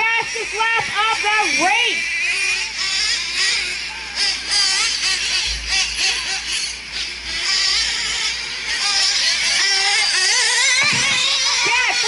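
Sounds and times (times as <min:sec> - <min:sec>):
small engines revving: 0:00.4 - 0:12.0.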